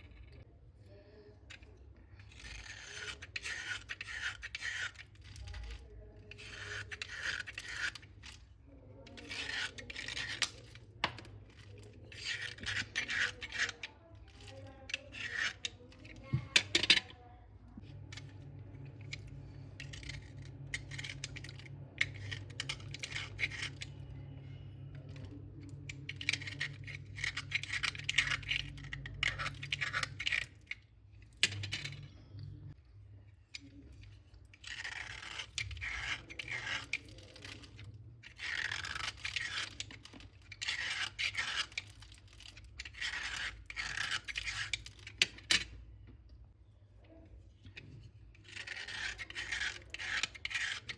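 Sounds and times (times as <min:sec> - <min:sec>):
low steady hum: 0:00.0 - 0:50.9
slate pencils crunching: 0:02.2 - 0:17.1, 0:17.8 - 0:32.5, 0:34.5 - 0:45.7, 0:47.7 - 0:50.9.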